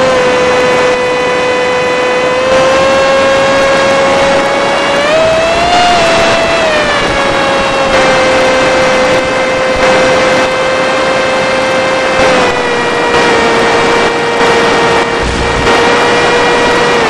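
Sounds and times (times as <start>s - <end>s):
model plane motor buzzing whine: 0.0s - 17.0s.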